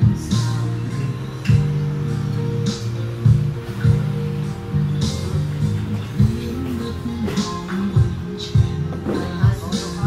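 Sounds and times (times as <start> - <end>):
low bass notes: 0.0 - 10.0.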